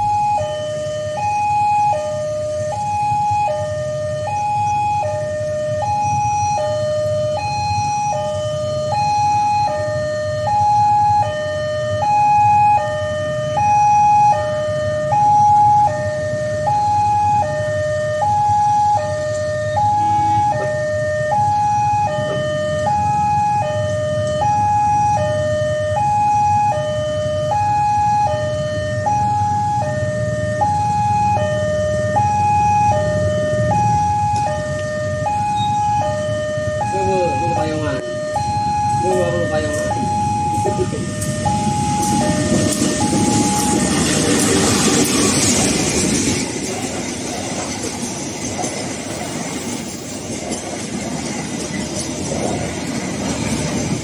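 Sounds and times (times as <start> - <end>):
level crossing two-tone alarm: 0.0 - 47.4.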